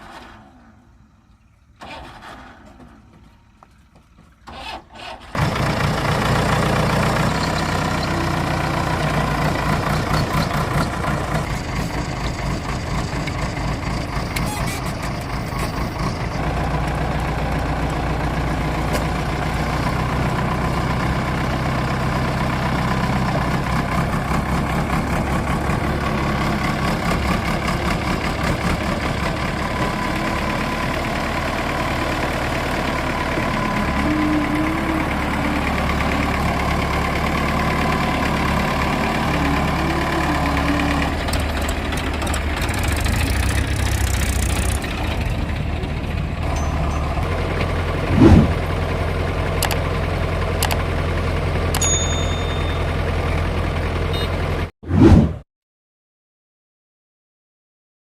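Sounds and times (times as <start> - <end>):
diesel engine of heavy machinery: 0.0 - 54.7.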